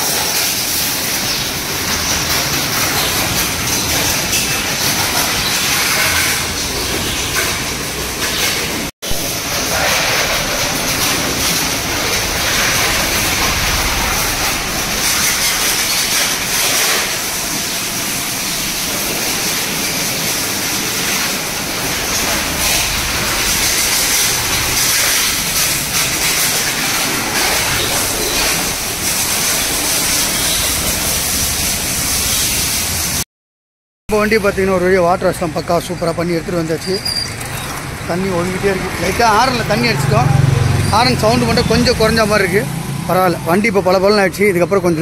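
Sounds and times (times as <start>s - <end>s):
pressure washer water jet hissing: 0.0s - 33.2s, 34.2s - 43.0s.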